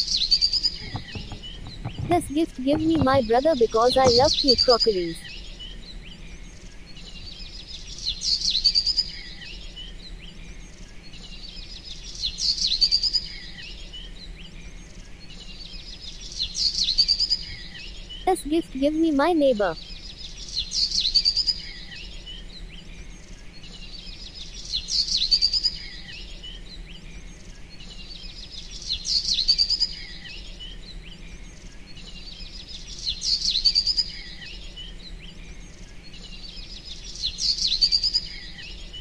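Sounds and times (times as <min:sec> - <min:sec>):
bird chirps and trills: 0:00.0 - 0:39.0.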